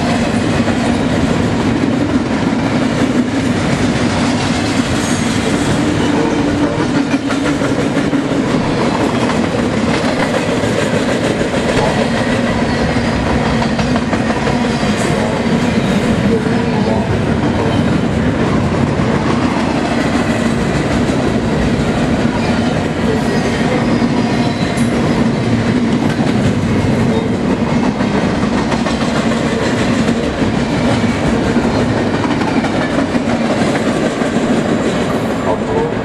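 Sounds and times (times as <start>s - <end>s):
train rolling past: 0.0s - 36.0s.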